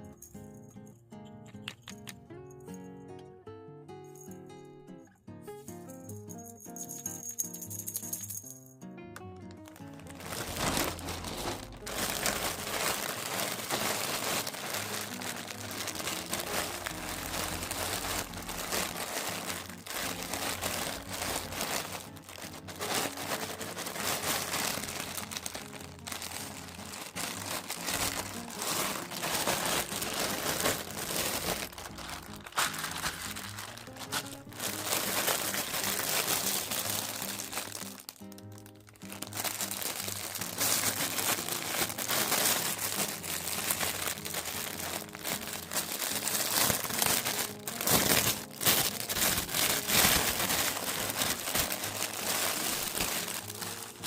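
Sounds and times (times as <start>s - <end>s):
background music: 0.0s - 54.0s
packaging crinkling and rustling: 9.5s - 54.0s.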